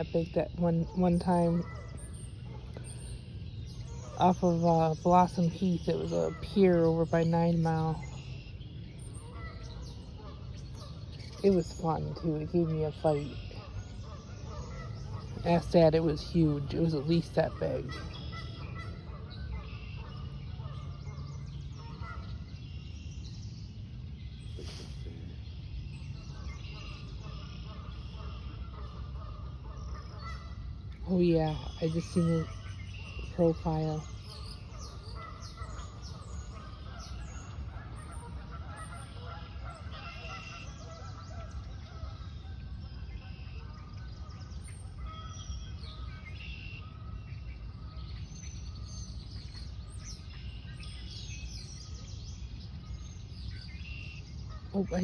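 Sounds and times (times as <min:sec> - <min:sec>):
birds chirping: 0:00.0 - 0:55.0
low outdoor rumble: 0:00.0 - 0:55.0.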